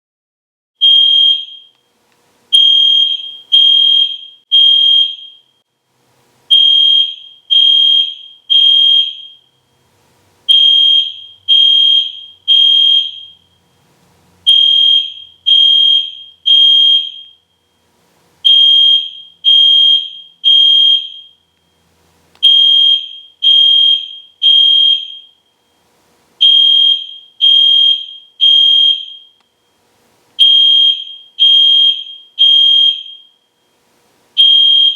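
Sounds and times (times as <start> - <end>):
fire alarm horn blasts: 0.8 - 1.8, 2.5 - 5.6, 6.5 - 9.8, 10.5 - 13.8, 14.4 - 21.8, 22.4 - 25.8, 26.4 - 29.8, 30.4 - 33.8, 34.4 - 34.9.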